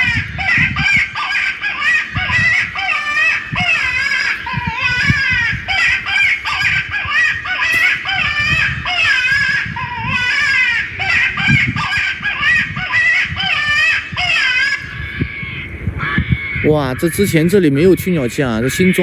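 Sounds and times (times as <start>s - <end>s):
recorded bird calls over loudspeaker: 0.0s - 19.0s.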